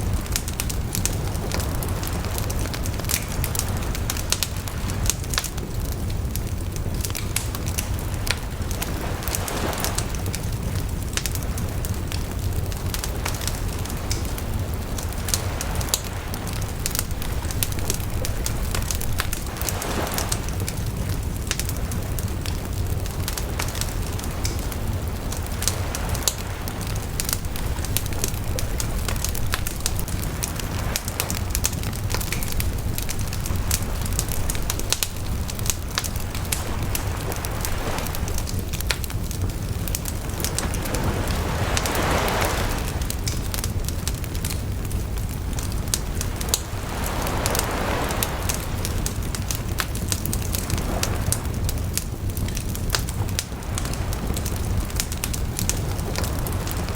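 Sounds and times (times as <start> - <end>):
bonfire crackling and popping: 0.0 - 56.9
low rumble of flames: 0.0 - 56.9.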